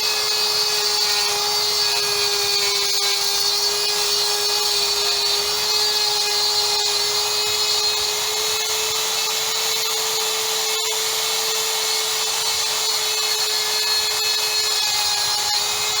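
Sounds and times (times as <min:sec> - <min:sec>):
power tool motor whine: 0:00.0 - 0:16.0.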